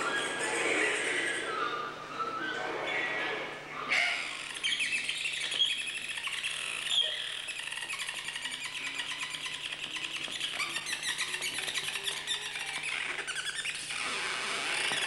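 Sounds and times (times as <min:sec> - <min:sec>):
squeaky electronic feedback flutter: 0:00.0 - 0:15.0.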